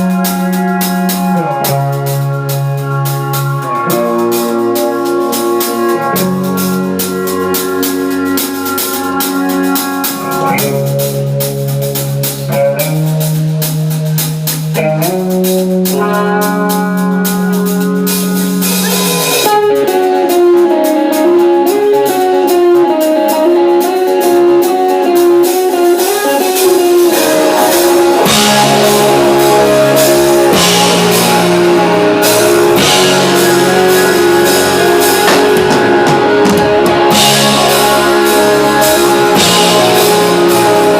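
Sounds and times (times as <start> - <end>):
band with guitar and drums: 0.0 - 40.9
wavering lead melody: 0.0 - 40.9.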